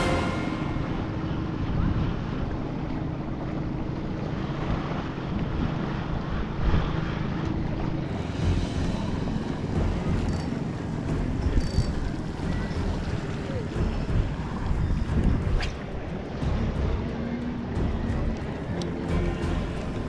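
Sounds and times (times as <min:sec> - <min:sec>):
water and waves washing: 0:00.0 - 0:20.0
wind buffeting microphone: 0:00.7 - 0:19.0.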